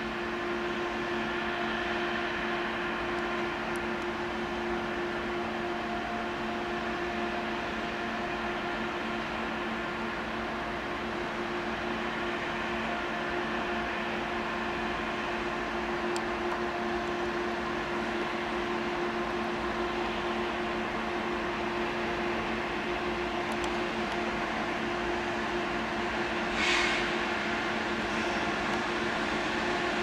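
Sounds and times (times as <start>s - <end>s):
electric train moving slowly: 0.0s - 30.0s.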